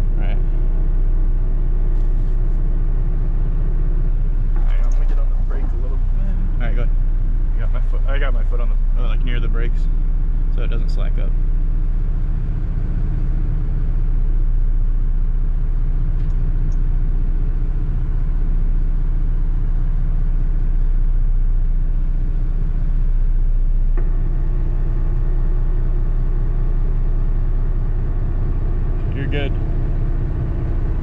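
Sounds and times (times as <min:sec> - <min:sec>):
diesel truck engine rumbling: 0:00.0 - 0:31.0
high steady hum: 0:00.0 - 0:31.0.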